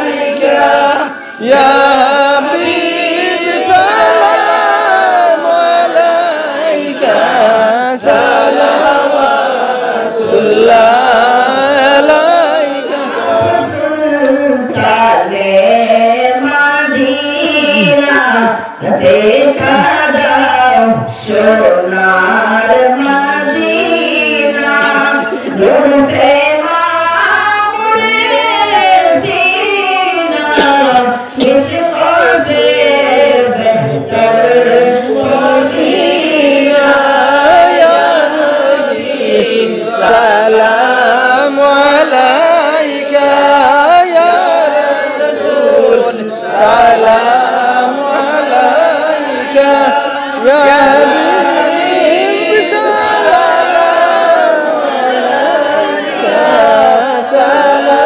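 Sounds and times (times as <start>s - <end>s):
boy singing into a microphone: 0.0s - 58.0s
men singing in chorus: 0.0s - 58.0s.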